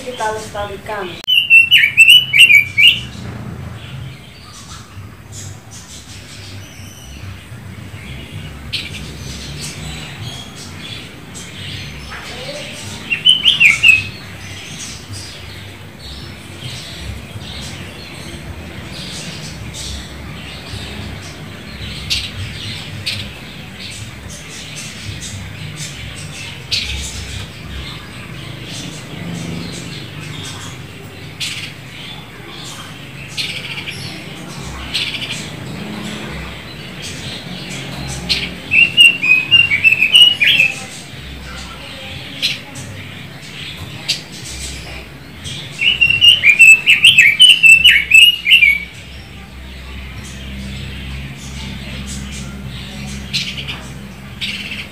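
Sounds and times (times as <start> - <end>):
bird chirping: 0.0 - 54.9.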